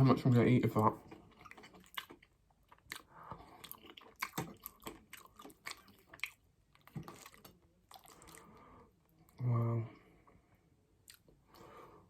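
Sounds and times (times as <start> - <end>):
close eating and chewing: 0.0 - 12.0.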